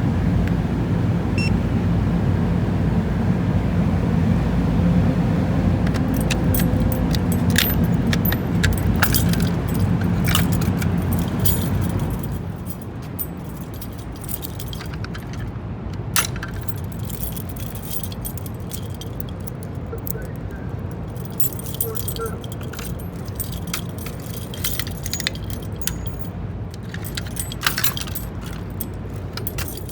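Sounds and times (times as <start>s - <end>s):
low steady rumble: 0.8s - 29.9s
metallic jingling and clicking: 5.8s - 29.9s.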